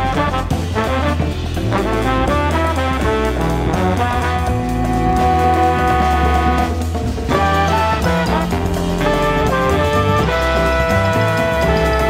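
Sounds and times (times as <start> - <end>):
bass line: 0.0 - 12.0
horn section playing jazz: 0.0 - 12.0.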